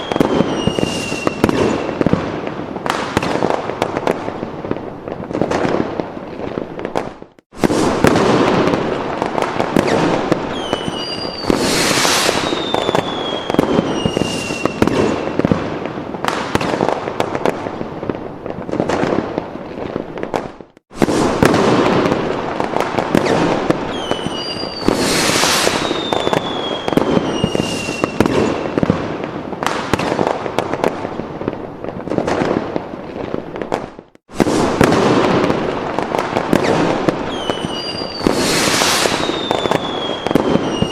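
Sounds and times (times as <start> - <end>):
falling fireworks whistles: 0.0 - 40.9
fireworks crackling and popping: 0.0 - 40.9.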